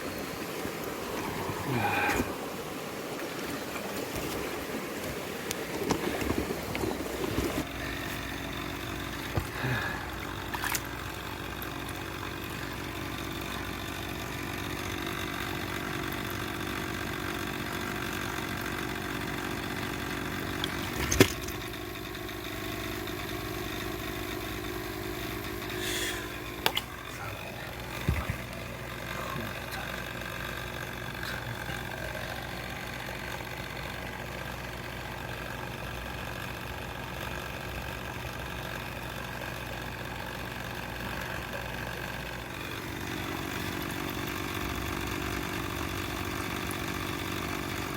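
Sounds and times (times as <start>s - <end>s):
engine running at low speed: 0.0s - 47.9s.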